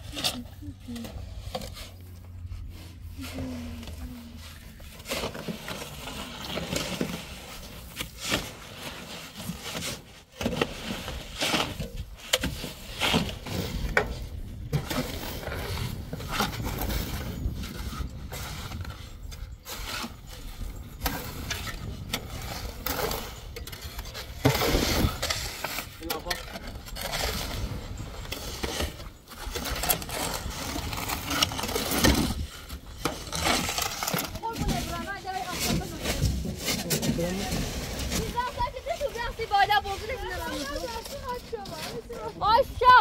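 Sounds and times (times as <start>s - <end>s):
shovels scooping sand and gravel: 0.0s - 43.0s
shovels scraping metal truck bed: 0.0s - 43.0s.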